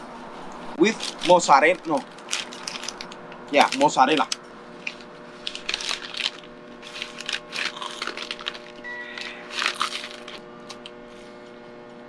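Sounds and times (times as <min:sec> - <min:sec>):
paper bag crinkling: 0:00.8 - 0:10.8
crunchy biting: 0:00.8 - 0:10.9.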